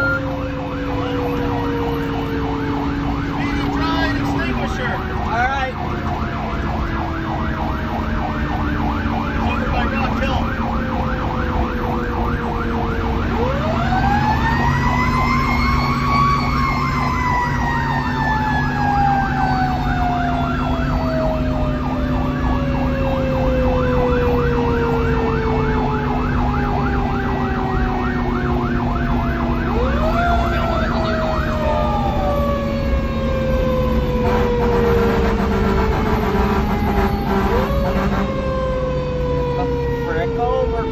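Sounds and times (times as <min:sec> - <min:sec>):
electronic yelp siren: 0:00.0 - 0:40.9
mechanical siren wailing: 0:00.0 - 0:40.9.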